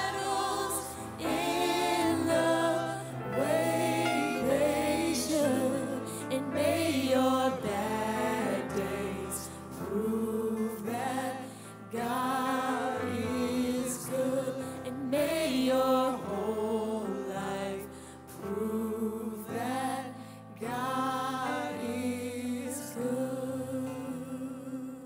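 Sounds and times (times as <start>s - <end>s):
group singing worship song: 0.0s - 25.0s.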